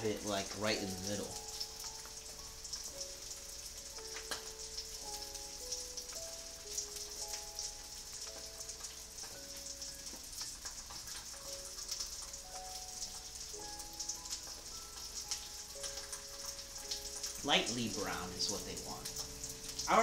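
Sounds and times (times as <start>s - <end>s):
fish sizzling in a frying pan: 0.0s - 20.0s
soft background music: 0.0s - 20.0s.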